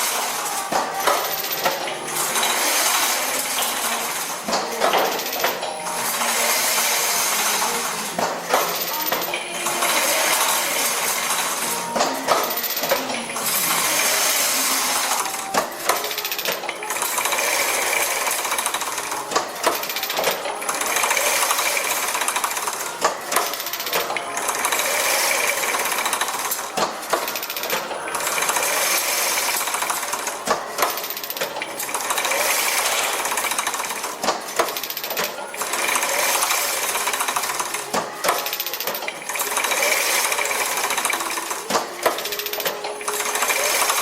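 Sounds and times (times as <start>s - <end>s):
mesh weaving machine rattling: 0.0s - 44.0s.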